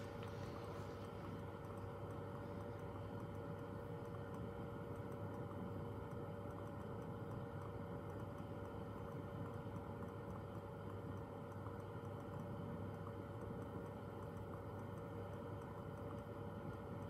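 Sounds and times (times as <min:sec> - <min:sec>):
faint regular ticking: 0:00.0 - 0:17.0.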